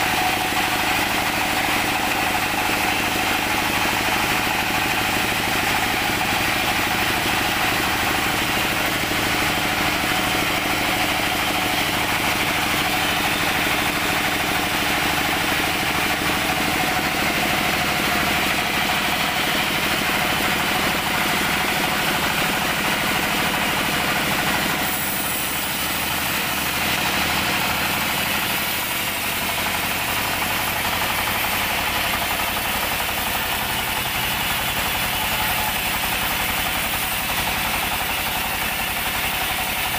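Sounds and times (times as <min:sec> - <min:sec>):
sawmill engine idling: 0:00.0 - 0:39.9.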